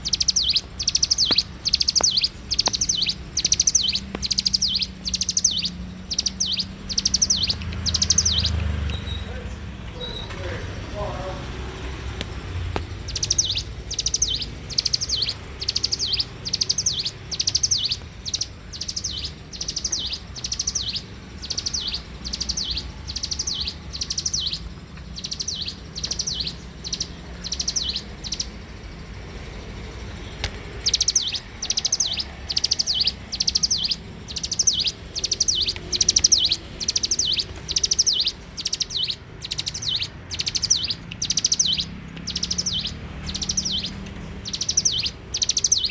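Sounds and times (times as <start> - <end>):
bird singing trilled phrases: 0.0 - 45.9.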